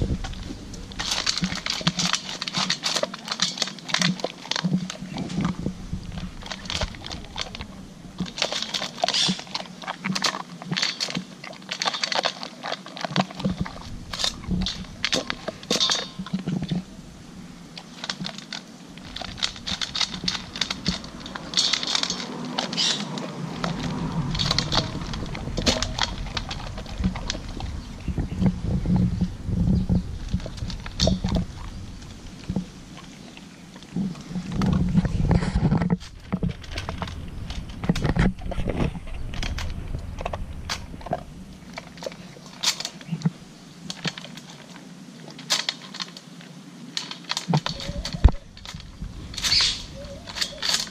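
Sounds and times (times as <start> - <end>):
dog chewing dry food: 0.0 - 50.9.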